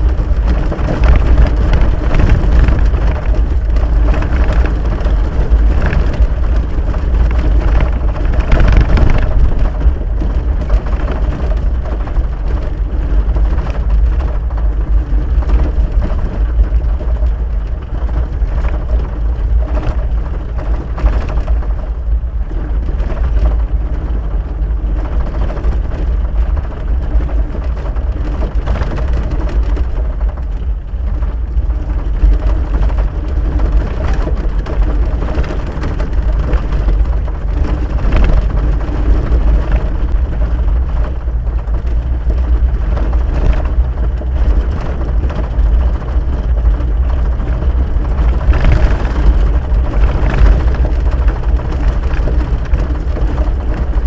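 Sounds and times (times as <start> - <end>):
engine and tyres rumbling: 0.0 - 54.0
knocks and rattles: 0.0 - 54.0.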